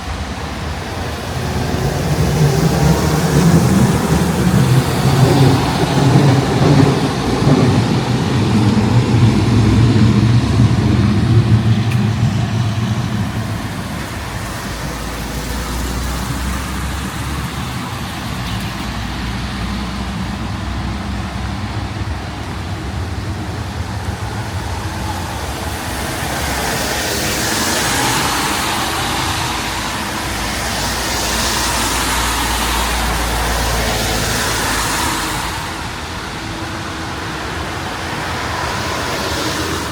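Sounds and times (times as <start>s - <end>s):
traffic noise: 0.0s - 39.9s
vehicle engine humming close by: 0.0s - 39.9s.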